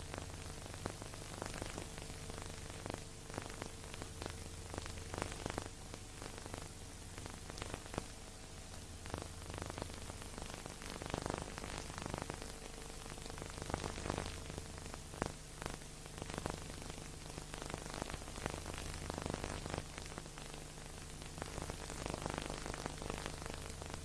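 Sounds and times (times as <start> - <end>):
crackles and clicks: 0.0 - 24.0
steady hiss: 0.0 - 24.0.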